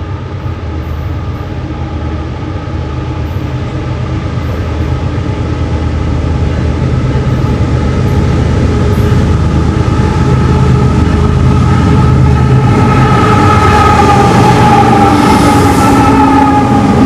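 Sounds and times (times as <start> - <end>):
diesel locomotive engine humming: 0.0 - 17.0.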